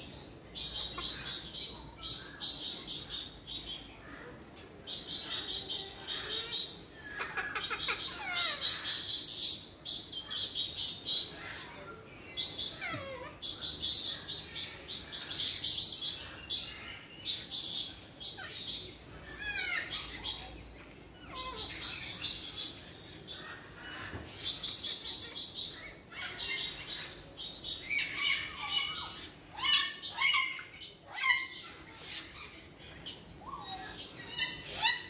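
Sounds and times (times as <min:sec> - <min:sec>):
parrots chattering: 0:00.5 - 0:35.0.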